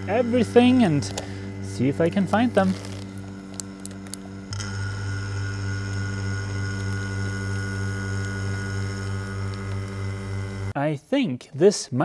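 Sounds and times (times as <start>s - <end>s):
electric vacuum pump humming: 0.0s - 10.8s.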